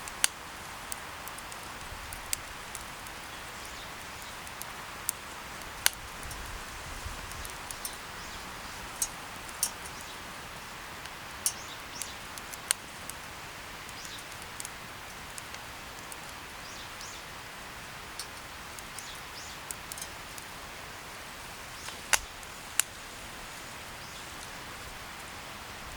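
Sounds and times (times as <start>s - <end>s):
campfire crackling and popping: 0.0s - 25.6s.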